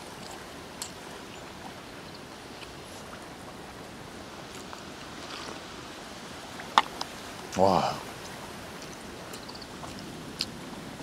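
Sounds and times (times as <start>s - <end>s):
sea surf: 0.0s - 11.0s
wind: 0.0s - 11.0s.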